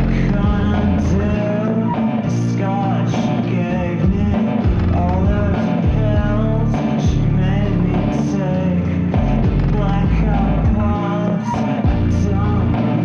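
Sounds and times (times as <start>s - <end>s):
rock song: 0.0s - 13.0s
singer holding long notes: 0.0s - 13.0s.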